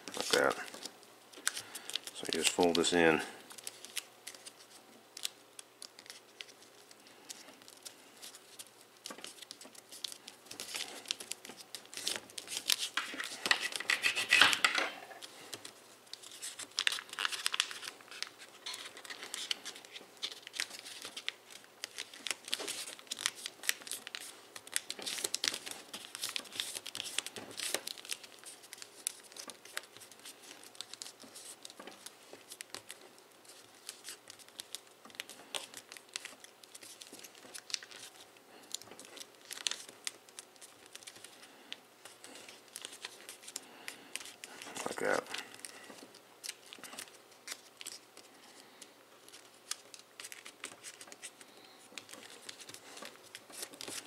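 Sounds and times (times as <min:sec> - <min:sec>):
foil paper crinkling: 0:00.0 - 0:54.0.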